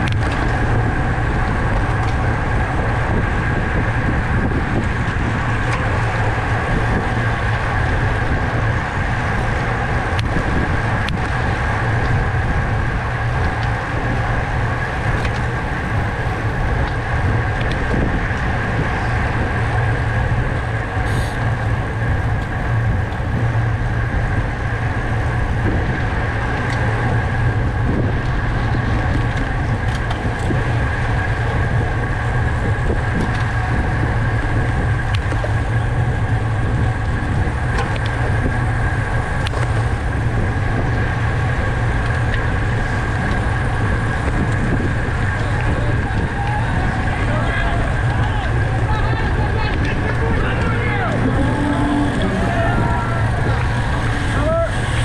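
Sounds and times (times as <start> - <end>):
low drone: 0.0 - 55.0
wind and road noise: 0.0 - 55.0.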